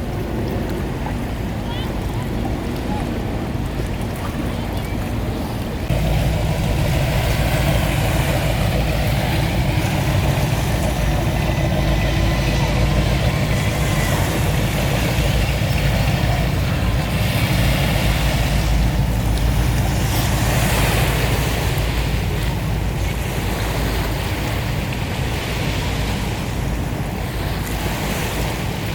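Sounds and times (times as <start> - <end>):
engine running with low rumble: 0.0 - 28.9.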